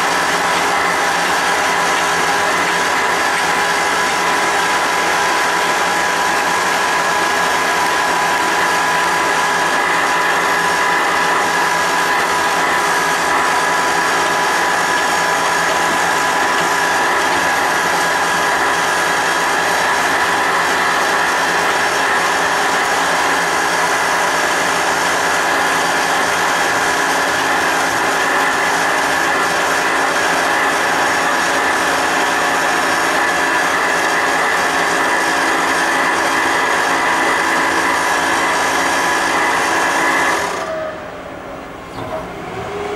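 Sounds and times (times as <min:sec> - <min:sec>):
constant high whine: 0:00.0 - 0:42.9.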